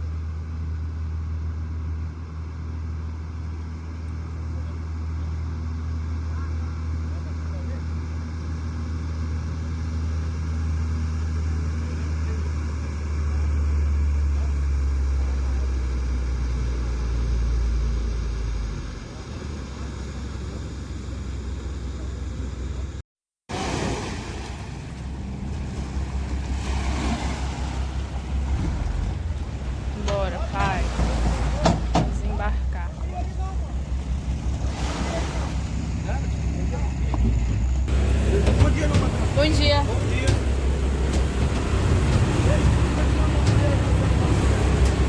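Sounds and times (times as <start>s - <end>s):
boat engine drone: 0.0s - 45.0s
water noise: 0.0s - 45.0s.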